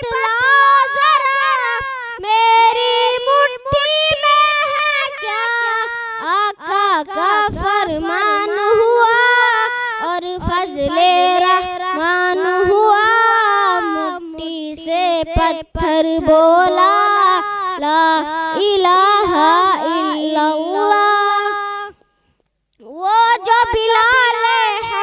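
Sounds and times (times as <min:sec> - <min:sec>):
boy singing unaccompanied: 0:00.0 - 0:22.0, 0:22.8 - 0:25.0.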